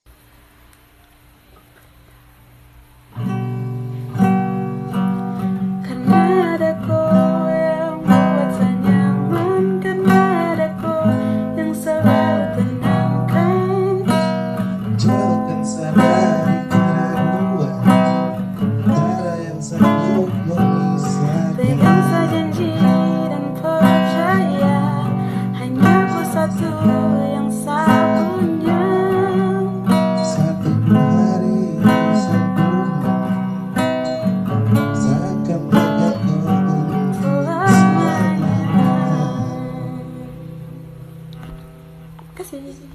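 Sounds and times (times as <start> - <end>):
strummed acoustic guitar: 2.8 - 42.6
person singing: 4.4 - 40.9, 42.4 - 42.9.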